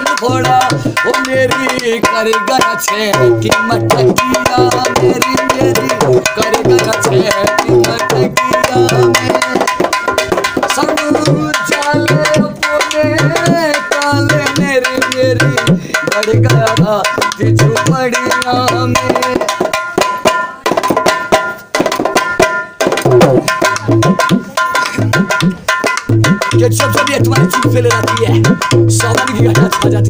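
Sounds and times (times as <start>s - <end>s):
barrel drum folk rhythm: 0.0s - 30.0s.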